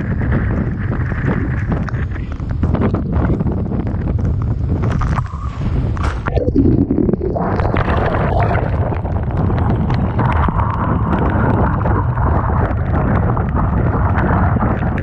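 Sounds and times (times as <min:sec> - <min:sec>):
rough sea crashing: 0:00.0 - 0:15.0
strong wind buffeting microphone: 0:00.0 - 0:15.0.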